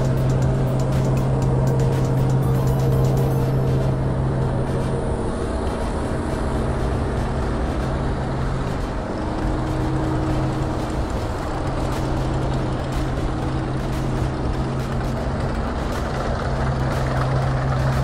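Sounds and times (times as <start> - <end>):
combine harvester droning: 0.0 - 18.0.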